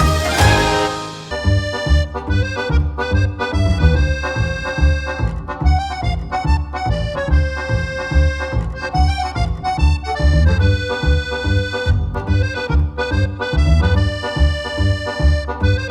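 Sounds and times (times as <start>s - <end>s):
accordion melody over steady beat: 0.0s - 15.9s.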